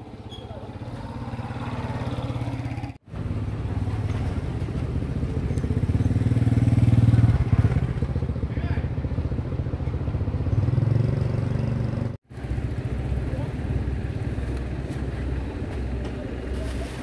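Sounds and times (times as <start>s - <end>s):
motorbike approaching: 0.0s - 17.0s
motorbike engines puttering: 0.0s - 17.0s.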